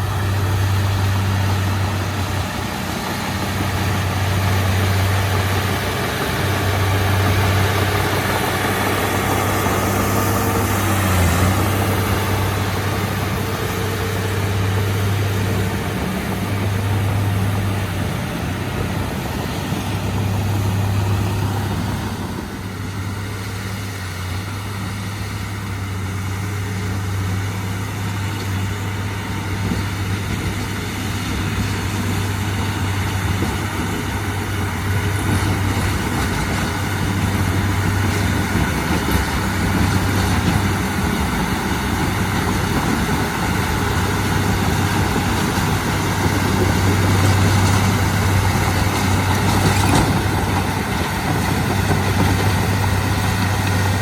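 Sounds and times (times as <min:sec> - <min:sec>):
heavy diesel engine humming: 0:00.0 - 0:54.0.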